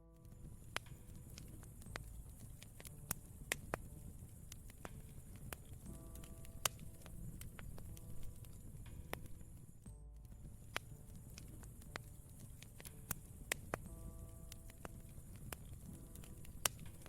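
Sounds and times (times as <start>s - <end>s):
soft piano notes: 0.0s - 17.0s
campfire crackling and popping: 0.1s - 17.0s.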